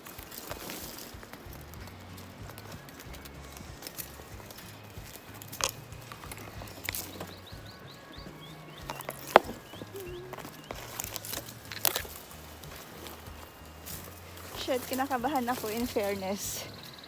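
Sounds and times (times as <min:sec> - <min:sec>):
footsteps on rocky ground: 0:00.0 - 0:17.0
small bird chirping: 0:00.0 - 0:17.0.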